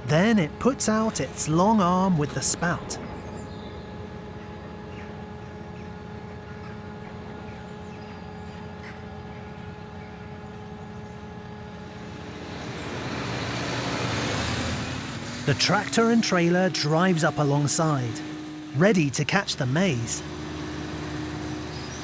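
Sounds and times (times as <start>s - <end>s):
harvester engine humming: 0.0s - 22.0s
tractor engine approaching: 0.0s - 22.0s.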